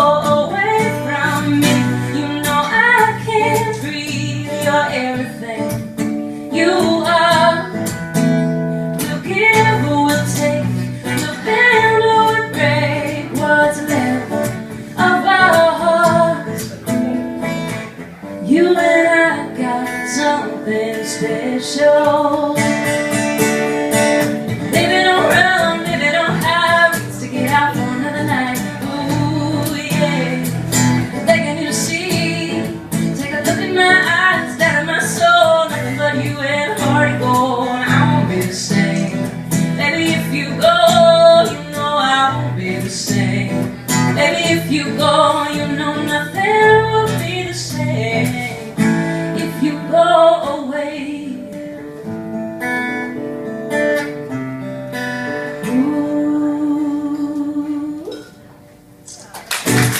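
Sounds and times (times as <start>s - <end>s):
woman singing: 0.0s - 16.9s, 18.4s - 51.8s, 55.5s - 58.4s
strummed acoustic guitar: 0.0s - 59.9s.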